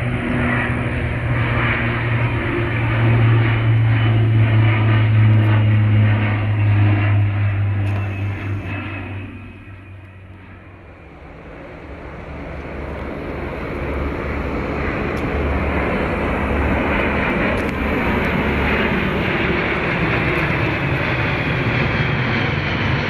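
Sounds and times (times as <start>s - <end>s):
military aircraft engine: 0.0s - 23.0s.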